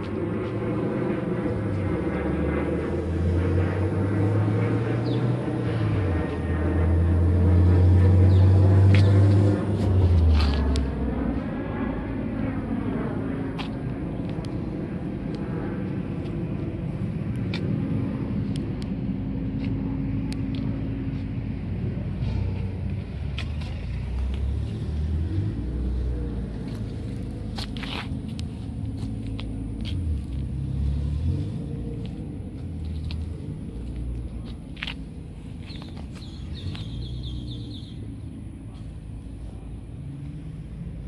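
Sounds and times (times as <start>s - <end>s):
car engine rumbling: 0.0s - 41.0s.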